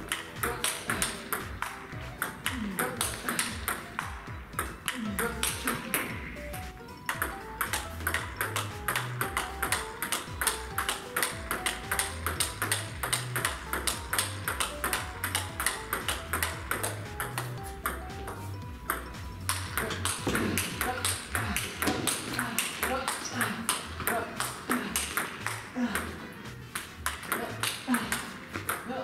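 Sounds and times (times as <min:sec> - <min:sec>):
table tennis ball clicking: 0:00.0 - 0:28.9.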